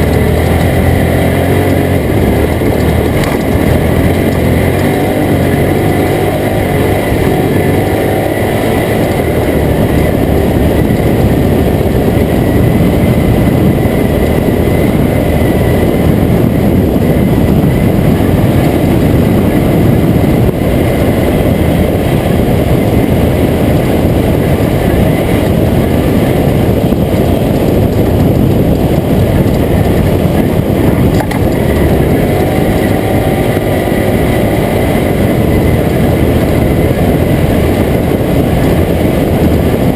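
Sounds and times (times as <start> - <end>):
loud road noise: 0.0 - 39.9
truck engine running: 0.0 - 39.9.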